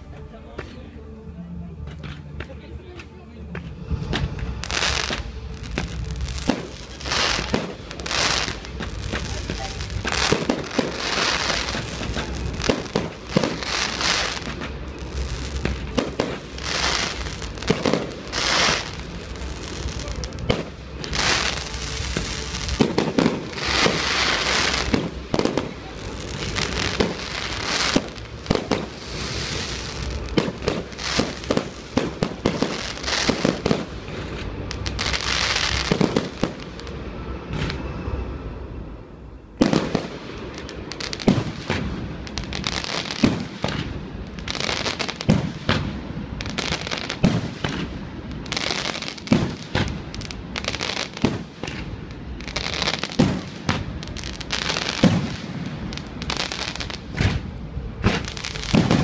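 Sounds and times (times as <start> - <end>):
fireworks hissing and crackling: 1.7 - 59.0
fireworks bangs: 3.5 - 38.2, 39.6 - 59.0.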